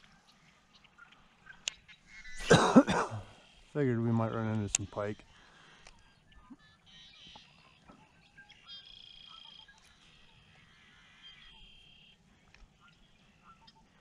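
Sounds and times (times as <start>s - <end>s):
bird trills and chirps: 0.0s - 14.0s.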